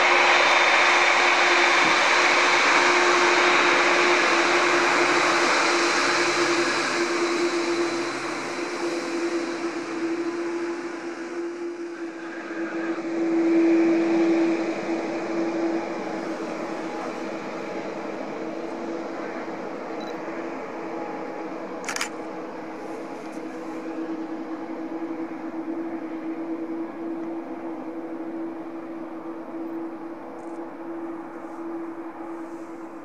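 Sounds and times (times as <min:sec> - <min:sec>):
jet engines humming: 0:00.0 - 0:33.0.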